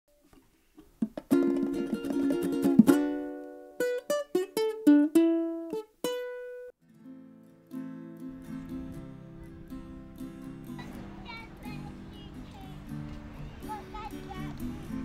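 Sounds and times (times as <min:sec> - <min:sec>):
plucked string instrument: 0:00.8 - 0:15.0.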